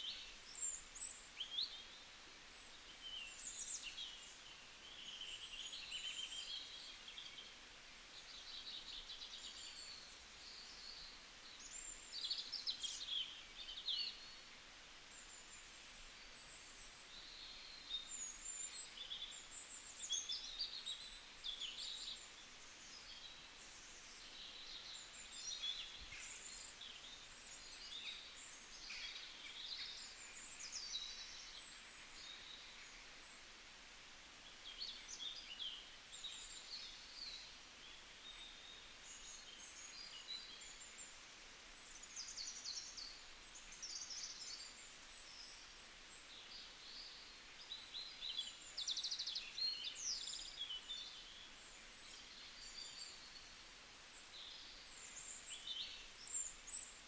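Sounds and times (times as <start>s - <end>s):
small birds chirping and trilling: 0.0s - 33.6s, 34.4s - 57.0s
faint steady hiss: 0.0s - 57.0s.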